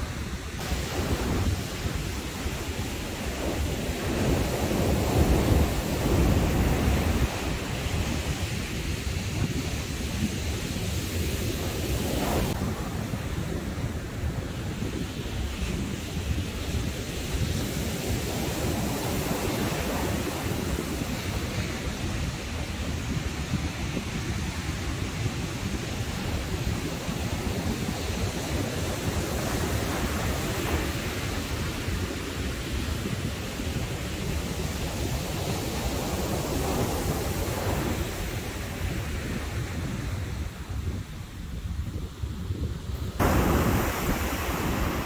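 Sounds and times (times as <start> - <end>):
surf breaking on beach: 0.0 - 42.0, 42.6 - 45.0
wind on microphone: 0.0 - 45.0.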